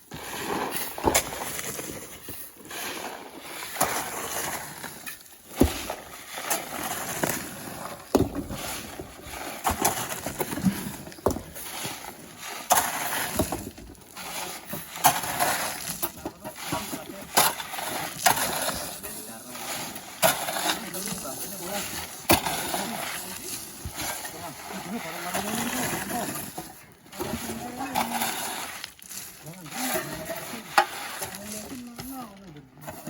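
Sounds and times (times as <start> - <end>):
shovels digging wet sand: 0.0 - 33.0.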